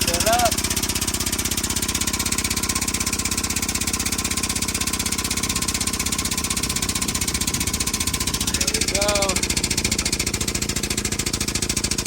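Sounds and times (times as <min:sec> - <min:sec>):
air jack pump chattering: 0:00.0 - 0:12.0.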